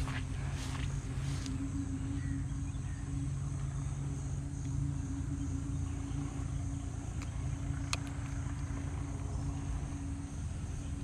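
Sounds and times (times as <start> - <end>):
insects buzzing: 0.0 - 11.0
low hum: 0.0 - 11.0.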